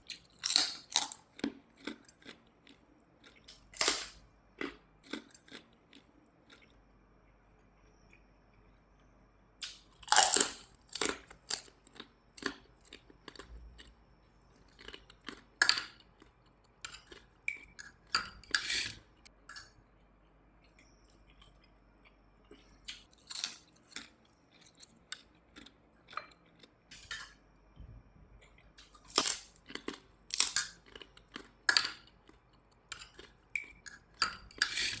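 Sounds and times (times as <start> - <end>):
chewing and crunching food: 0.0 - 27.6, 28.3 - 35.0.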